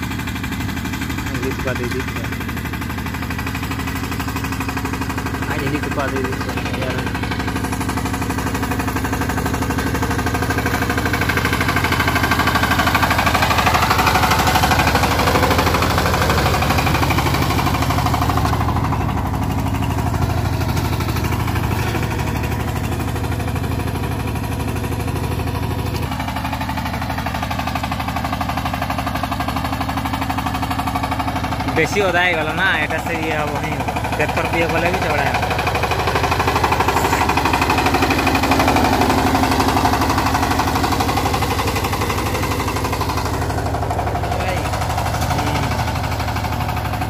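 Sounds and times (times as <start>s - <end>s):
diesel engine running under load: 0.0s - 47.0s.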